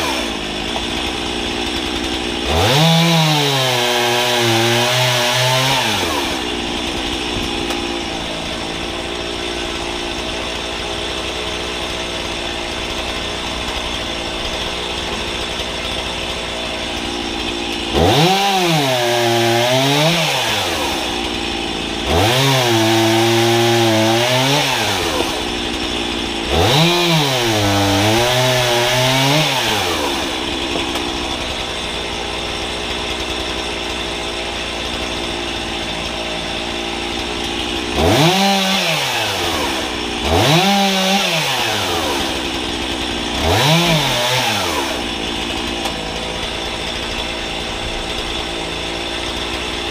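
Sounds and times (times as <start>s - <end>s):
chainsaw cutting log: 0.0s - 49.9s
chainsaw idling and revving: 0.0s - 49.9s.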